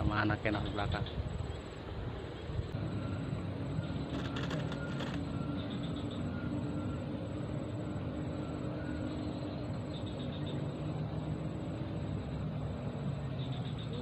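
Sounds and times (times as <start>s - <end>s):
faint continuous hum: 0.0s - 14.0s
outdoor background rumble: 0.0s - 14.0s.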